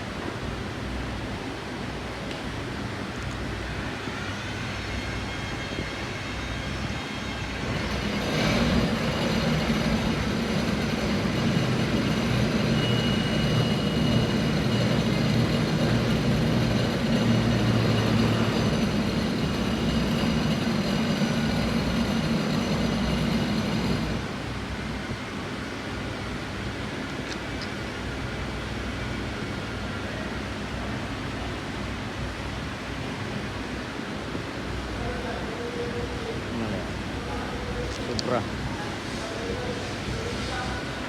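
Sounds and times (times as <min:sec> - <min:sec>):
mechanical hum with low drone: 0:00.0 - 0:41.0.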